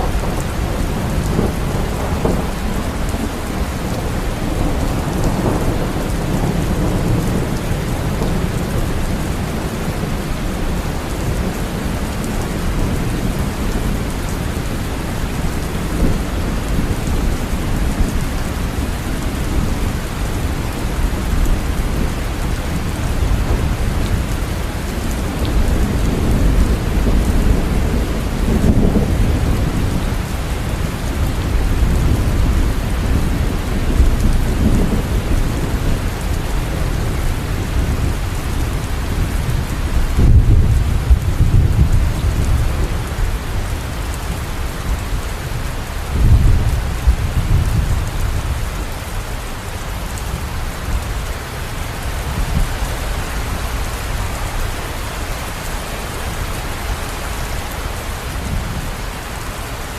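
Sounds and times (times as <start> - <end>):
heavy rain: 0.0 - 59.9
thunder rumbling: 0.0 - 59.9.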